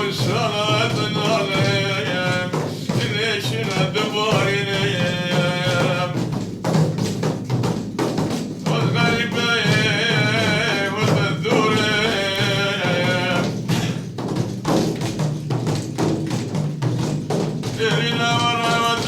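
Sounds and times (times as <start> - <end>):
man singing devotional song: 0.0 - 7.0, 8.5 - 15.2, 17.4 - 19.0
steady drum beat: 0.0 - 19.0.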